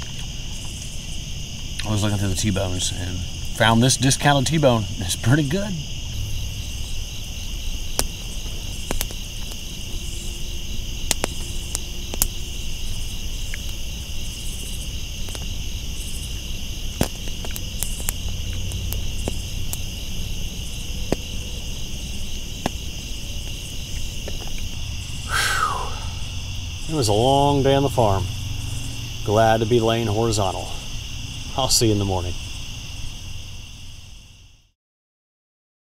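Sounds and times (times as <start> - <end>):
faint low rumble: 0.0 - 34.2
insects trilling: 0.0 - 34.8.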